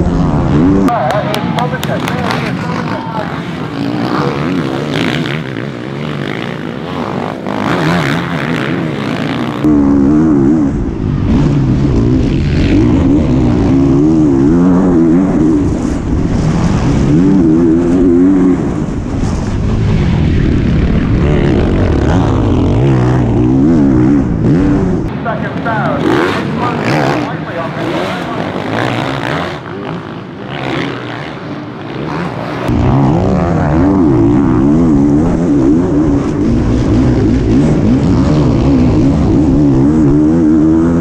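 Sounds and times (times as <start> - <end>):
motocross bike engines: 0.0 - 41.0
motorbike engine revving: 0.0 - 41.0.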